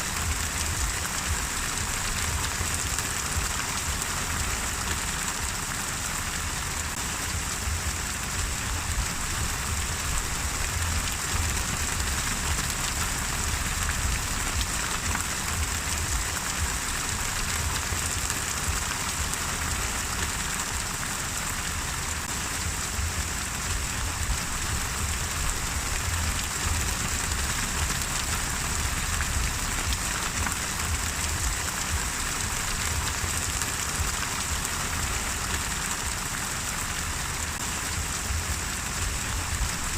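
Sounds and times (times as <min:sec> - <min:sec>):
rain patter on a surface: 0:00.0 - 0:39.9.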